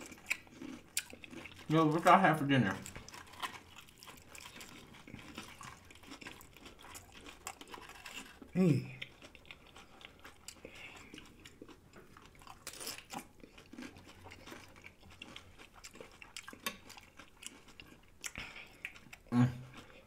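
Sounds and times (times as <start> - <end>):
chewing and crunching: 0.0 - 20.0.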